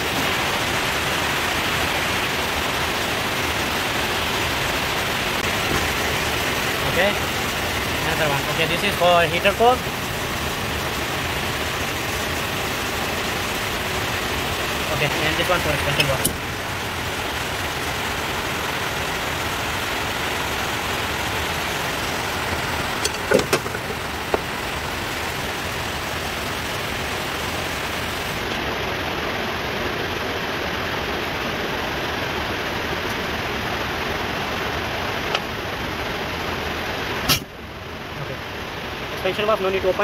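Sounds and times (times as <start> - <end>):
rain hissing: 0.0 - 40.0.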